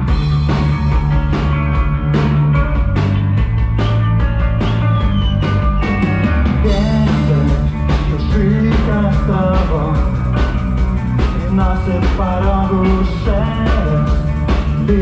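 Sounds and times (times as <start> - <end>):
bass guitar: 0.0 - 15.0
drum kit strikes: 0.0 - 15.0.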